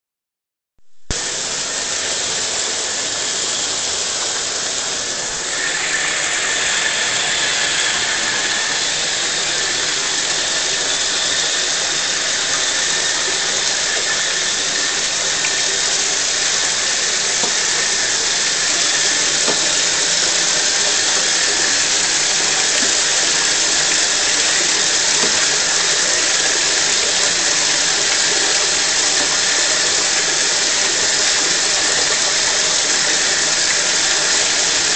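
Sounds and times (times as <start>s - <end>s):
bathtub tap running: 0.8s - 34.9s.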